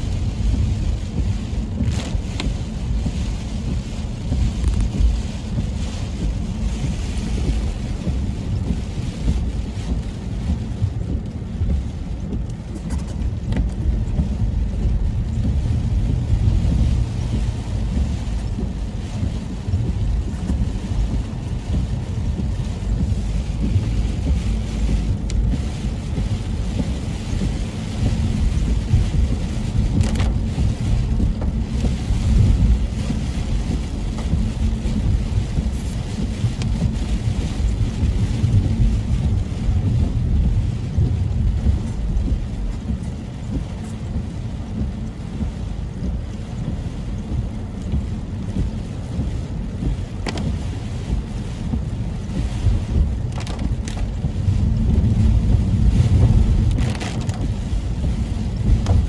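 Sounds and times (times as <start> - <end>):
rain hissing on windshield: 0.0 - 59.0
tyres rumbling on wet road: 0.0 - 59.0.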